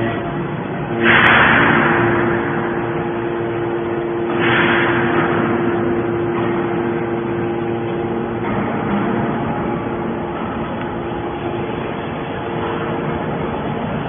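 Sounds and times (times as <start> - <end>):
hydraulic power unit hum: 0.0 - 14.0
rushing noise: 0.0 - 14.0.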